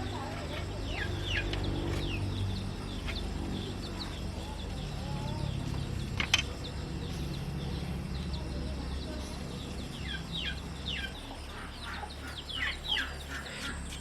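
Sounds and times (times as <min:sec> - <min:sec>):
chickens clucking: 0:00.0 - 0:14.0
small birds chirping: 0:00.0 - 0:14.0
steady low hum: 0:00.0 - 0:14.0.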